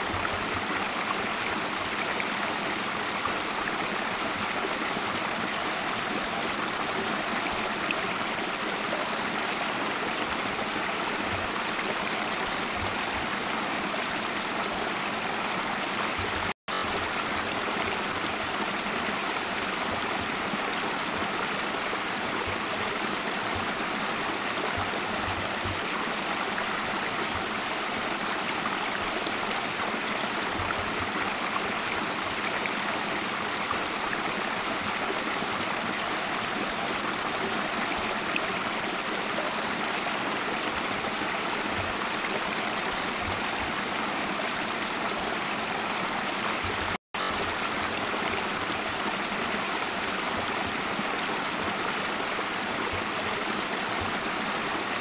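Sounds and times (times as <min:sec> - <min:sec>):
creek running over rocks: 0:00.0 - 0:55.0.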